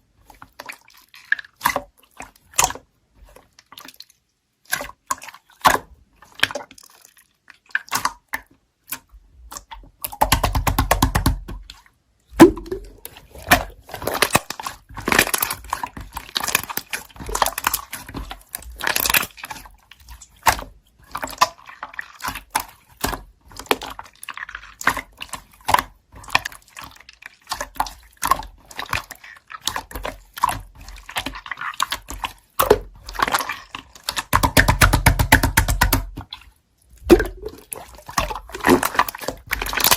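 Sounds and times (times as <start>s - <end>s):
air bubbles crackling in slime: 0.1s - 39.9s
slime squished by hand: 0.4s - 39.9s.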